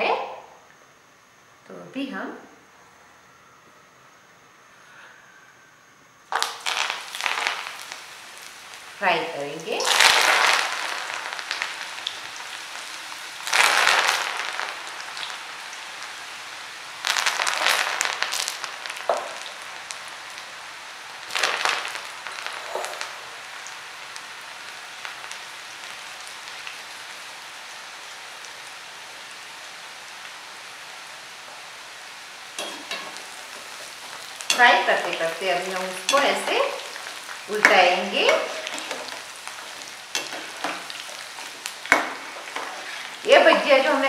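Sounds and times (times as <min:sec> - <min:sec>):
fritters sizzling in hot oil: 0:06.3 - 0:44.0.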